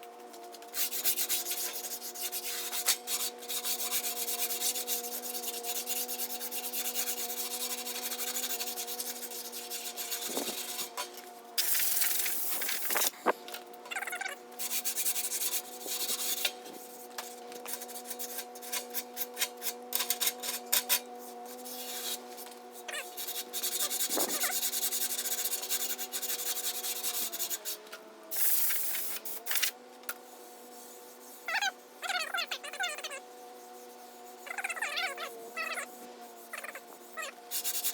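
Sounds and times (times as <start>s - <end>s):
sandpaper rasping strokes: 0.7s - 11.0s, 11.6s - 13.3s, 14.6s - 37.9s.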